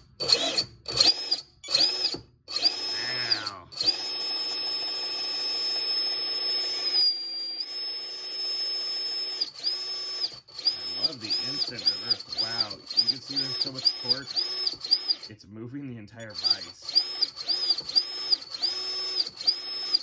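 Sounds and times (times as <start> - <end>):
electric motor high whine: 0.2 - 15.3, 16.2 - 20.0.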